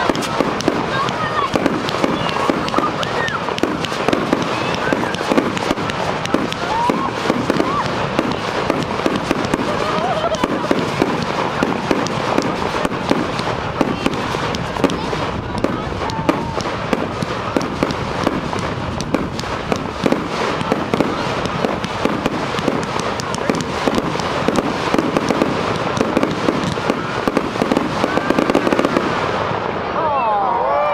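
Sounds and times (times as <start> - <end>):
fireworks crackles and pops: 0.0 - 30.0
fireworks fountain hissing: 0.0 - 30.2.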